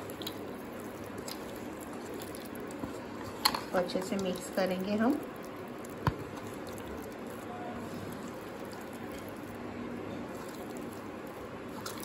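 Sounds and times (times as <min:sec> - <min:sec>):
wet squishing of batter mixing: 0:00.0 - 0:12.0.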